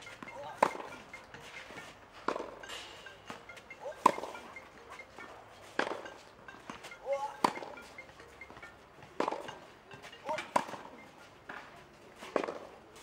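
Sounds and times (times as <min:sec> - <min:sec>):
tennis balls hit by rackets: 0:00.0 - 0:13.0.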